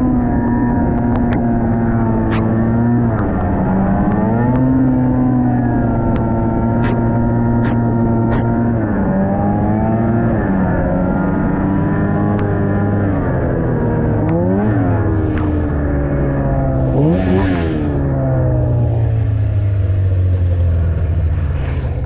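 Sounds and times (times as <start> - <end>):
snowmobile engine revving: 2.0 - 12.9, 14.2 - 22.0.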